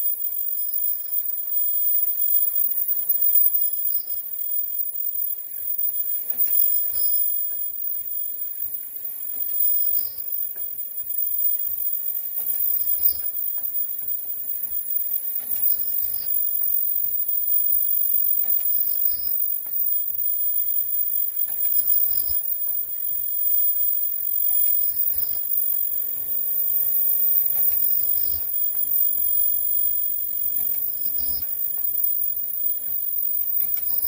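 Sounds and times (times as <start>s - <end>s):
machine chirp: 0.0s - 34.0s
steady high machine whine: 0.0s - 34.0s.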